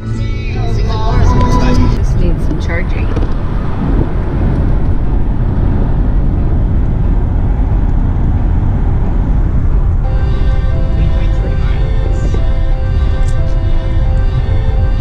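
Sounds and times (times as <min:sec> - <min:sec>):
vehicle road noise: 0:00.0 - 0:15.0.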